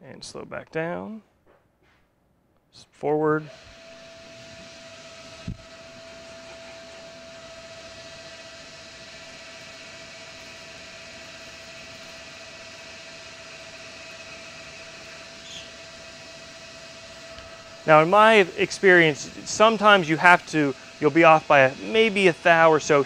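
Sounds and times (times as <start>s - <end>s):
lathe spindle whining: 3.5s - 23.0s.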